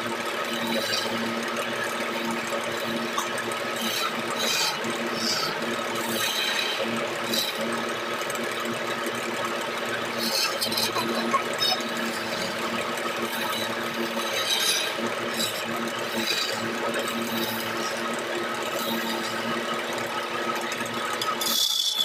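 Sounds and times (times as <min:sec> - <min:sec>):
chisel scraping spinning wood: 0:00.0 - 0:22.0
wood lathe humming: 0:00.0 - 0:22.0.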